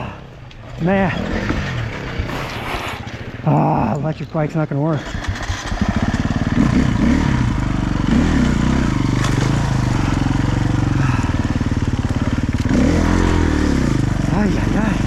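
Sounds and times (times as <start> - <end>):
dirt bike engine revving: 0.0 - 4.0, 4.9 - 15.0.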